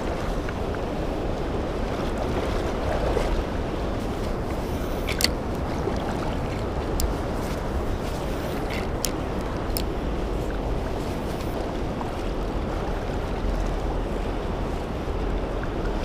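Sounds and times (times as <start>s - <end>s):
river water rushing: 0.0s - 16.0s
wind rumble on microphone: 0.0s - 16.0s.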